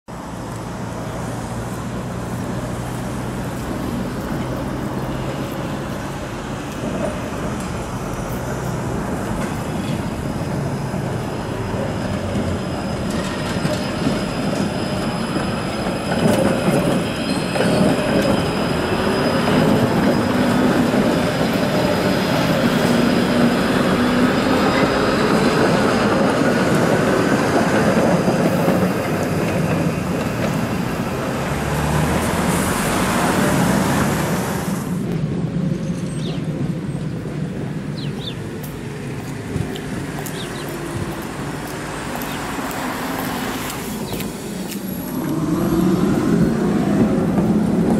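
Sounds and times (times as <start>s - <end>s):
trams rumbling on rails: 0.1s - 47.9s.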